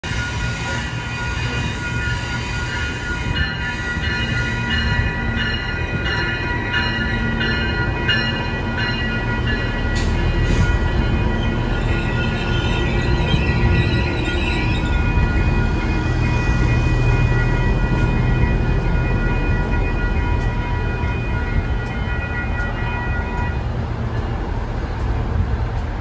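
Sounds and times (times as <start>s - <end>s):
level-crossing warning bells: 0.0s - 26.0s
train engine rumble: 0.0s - 26.0s.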